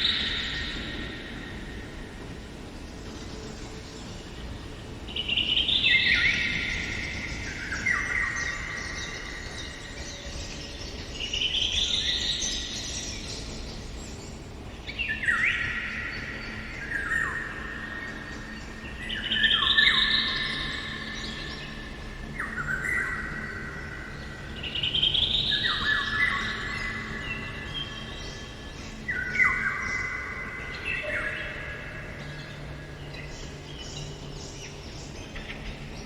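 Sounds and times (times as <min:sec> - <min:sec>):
songbird singing: 0:00.0 - 0:36.0.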